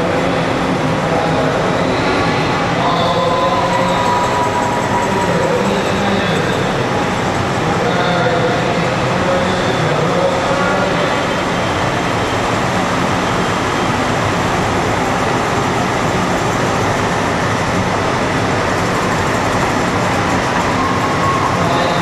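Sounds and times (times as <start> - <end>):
truck diesel engines running: 0.0 - 22.0.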